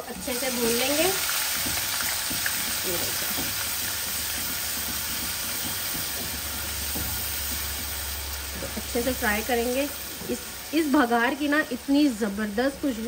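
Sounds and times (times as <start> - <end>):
wooden spoon stirring in pan: 0.0 - 12.0
paste sizzling in hot oil: 0.0 - 13.0.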